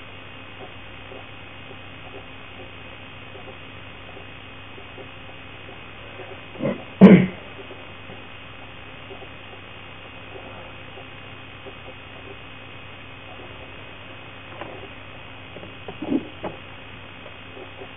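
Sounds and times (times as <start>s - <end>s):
electrical mains hum and hiss: 0.0s - 17.9s.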